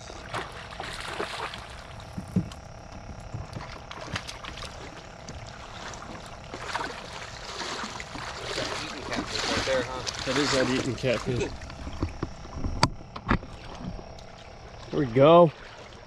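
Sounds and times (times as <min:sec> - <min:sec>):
fish splashing in water: 0:00.0 - 0:12.5, 0:13.4 - 0:16.0.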